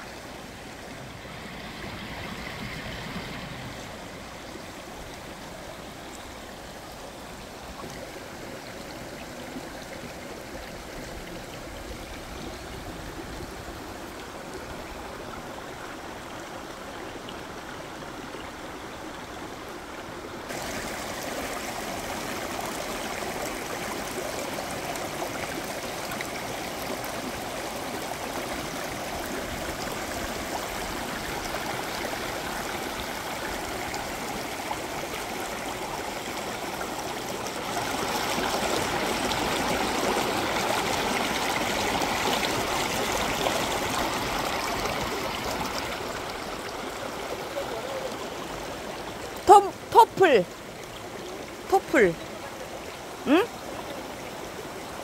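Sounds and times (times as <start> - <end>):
stream running over stones: 0.0 - 55.0.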